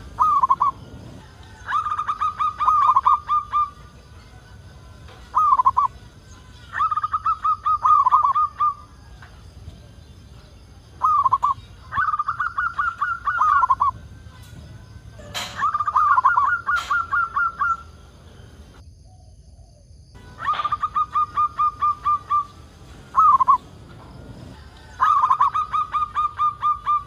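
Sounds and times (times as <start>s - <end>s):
dove cooing: 0.0s - 18.8s, 19.7s - 27.0s.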